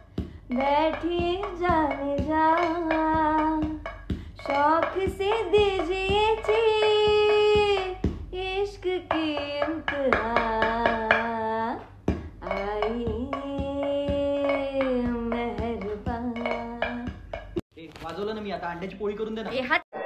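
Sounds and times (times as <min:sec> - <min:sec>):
utensil tapping frying pan: 0:00.0 - 0:17.6
woman singing: 0:00.5 - 0:03.8, 0:04.4 - 0:17.2.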